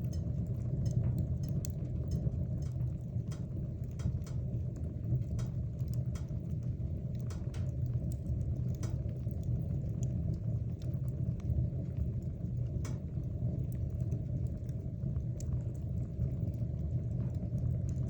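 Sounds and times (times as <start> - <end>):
fire rumbling: 0.0 - 18.0
wood crackling and popping: 0.0 - 18.0.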